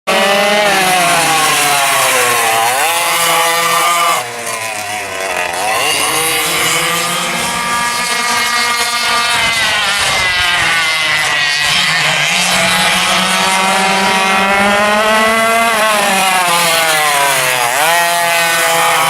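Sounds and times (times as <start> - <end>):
kart engines revving: 0.1 - 19.0.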